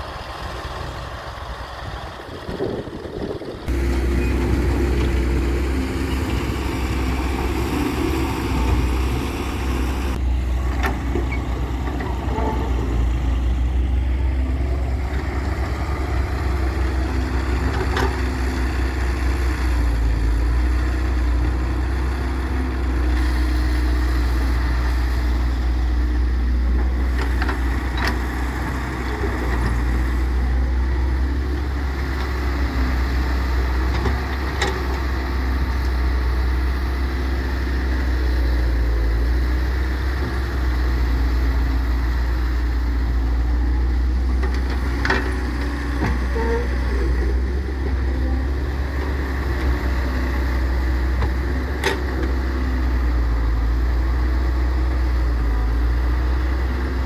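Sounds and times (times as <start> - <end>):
diesel engines running: 0.0 - 57.0
excavator digging soil: 2.5 - 57.0.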